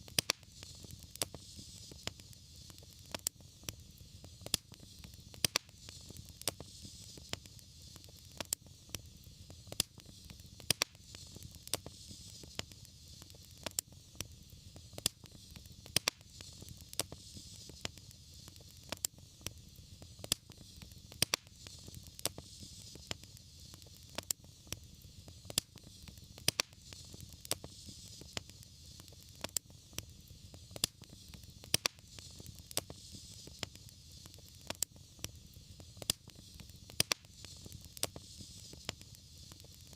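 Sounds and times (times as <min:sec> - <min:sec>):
soft hiss: 0:00.0 - 0:39.9
wood fire crackling: 0:00.0 - 0:39.9.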